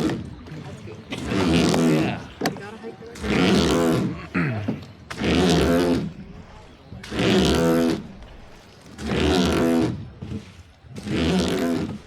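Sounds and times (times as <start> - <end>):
oar creaking against rope: 0.0 - 12.0.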